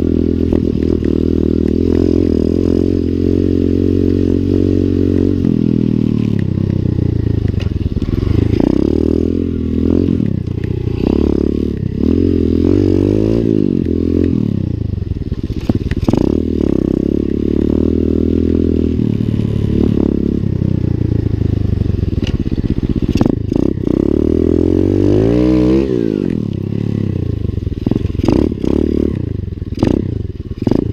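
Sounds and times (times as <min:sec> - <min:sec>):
motorbike engine revving: 0:00.0 - 0:30.9.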